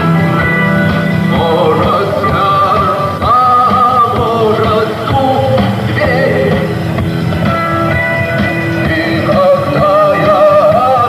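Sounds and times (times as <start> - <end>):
drum beats: 0.0 - 11.0
rock band playing: 0.0 - 11.0.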